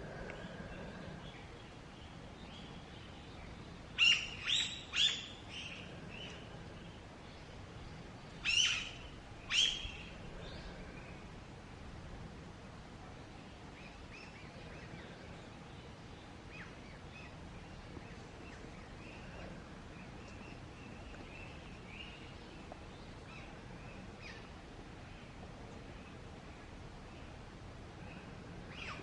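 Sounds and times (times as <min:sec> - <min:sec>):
small birds chirping: 0:00.0 - 0:11.6, 0:12.8 - 0:29.0
low background noise: 0:00.0 - 0:29.0.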